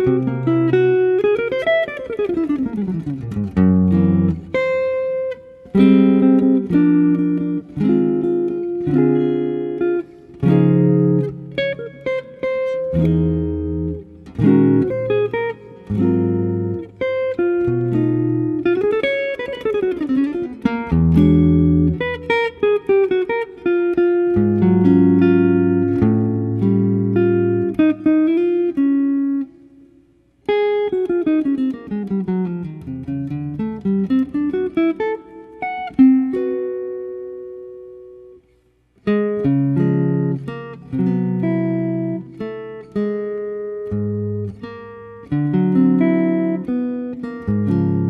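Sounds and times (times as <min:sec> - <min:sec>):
solo guitar music: 0:00.0 - 0:48.0.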